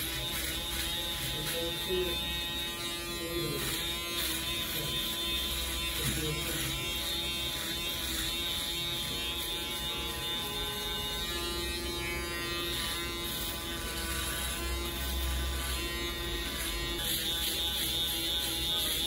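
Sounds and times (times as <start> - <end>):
electric beard trimmer buzzing: 0.0 - 19.0.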